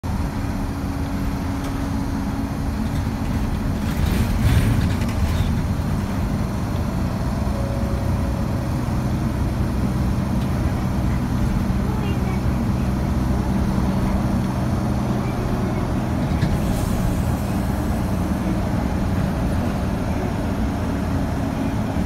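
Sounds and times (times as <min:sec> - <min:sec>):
bus engine drone: 0:00.0 - 0:22.0
road noise: 0:00.0 - 0:22.0.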